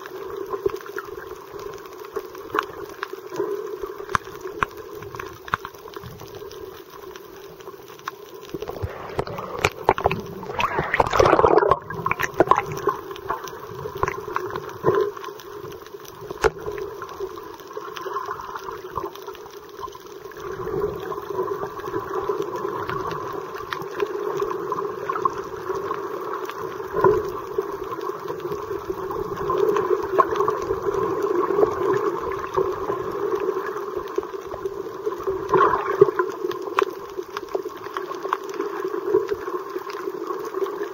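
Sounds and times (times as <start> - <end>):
underwater water gurgling: 0.0 - 40.9.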